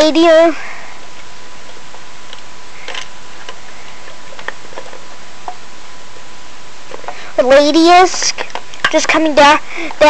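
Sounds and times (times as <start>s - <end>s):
faint hum: 0.0s - 10.0s
steady hiss: 0.0s - 10.0s.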